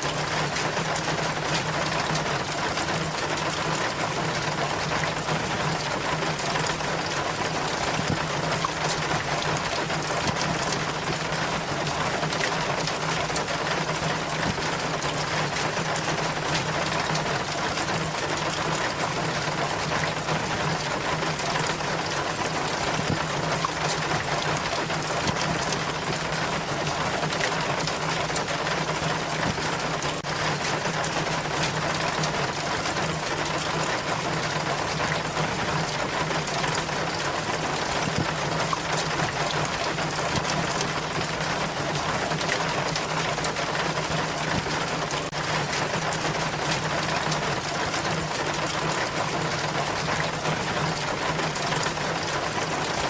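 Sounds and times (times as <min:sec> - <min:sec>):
rainwater streaming down rain chain: 0:00.0 - 0:53.0.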